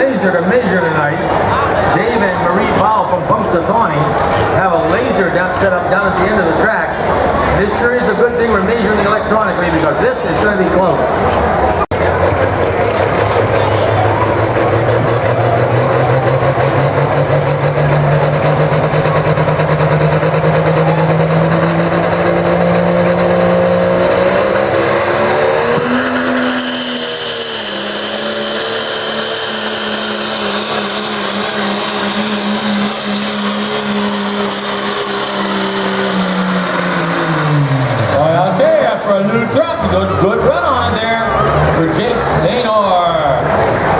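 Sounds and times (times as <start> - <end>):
diesel truck engine running flat out: 0.0 - 43.9.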